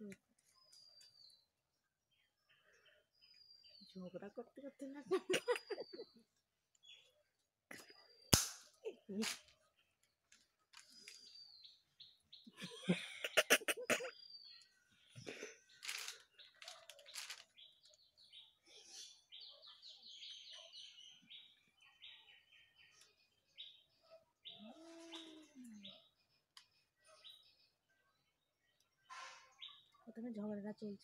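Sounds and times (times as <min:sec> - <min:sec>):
birds chirping: 0:00.4 - 0:31.0.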